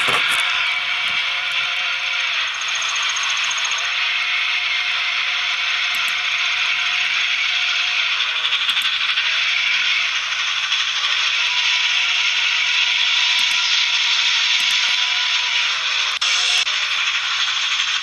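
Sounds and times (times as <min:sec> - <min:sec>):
steam locomotive hissing and roaring: 0:00.0 - 0:18.0.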